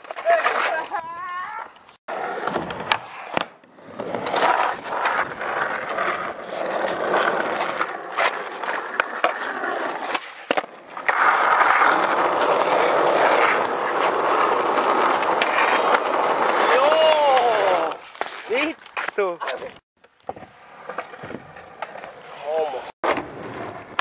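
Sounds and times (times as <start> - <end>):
skateboard clacking on ground: 0.0 - 24.0
skateboard wheels rolling on asphalt: 0.0 - 24.0.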